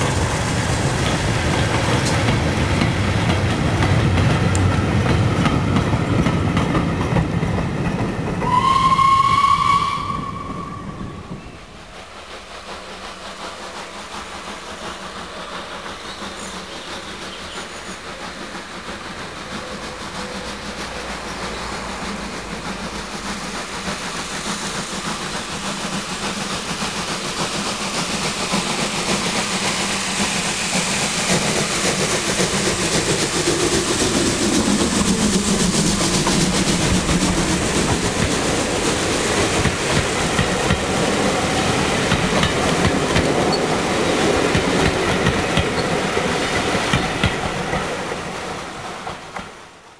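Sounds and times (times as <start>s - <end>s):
steam locomotive hauling train: 0.0s - 49.9s.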